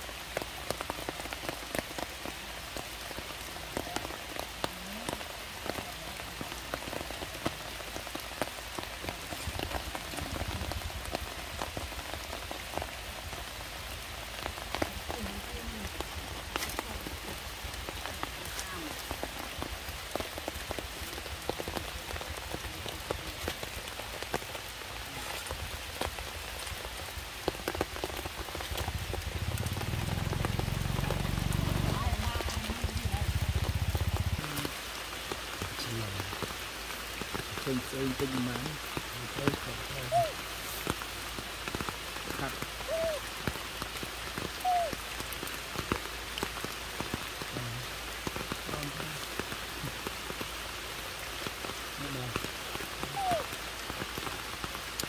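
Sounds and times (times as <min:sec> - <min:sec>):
heavy rain on leaves and stone: 0:00.0 - 0:55.0.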